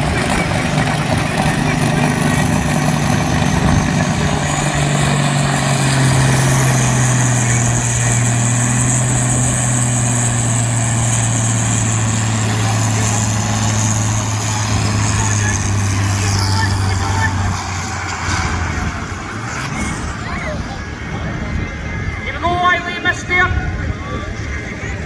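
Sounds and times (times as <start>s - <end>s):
diesel tractor engine under load: 0.0s - 25.0s.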